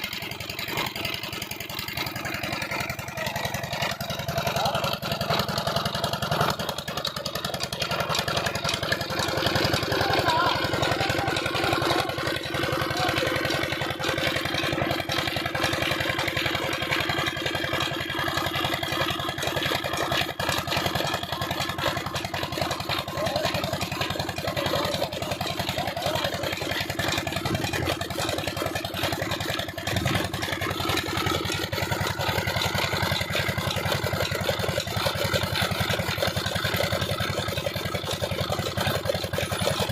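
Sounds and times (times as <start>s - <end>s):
stationary diesel engine running: 0.0s - 39.9s.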